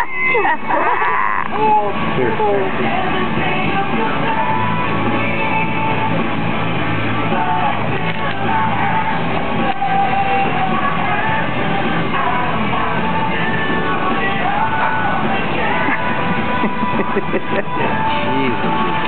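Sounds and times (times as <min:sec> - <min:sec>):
music with singing voice: 0:00.0 - 0:19.0.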